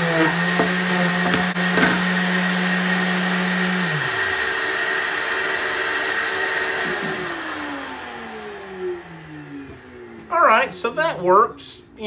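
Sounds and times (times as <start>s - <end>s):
orbital sander motor whirring: 0.0s - 10.2s.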